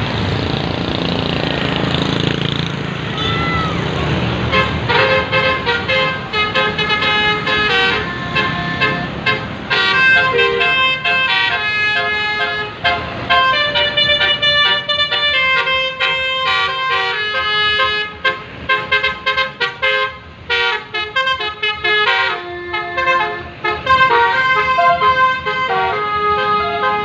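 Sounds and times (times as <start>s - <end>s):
multi-tone musical bus horn: 4.4s - 27.0s.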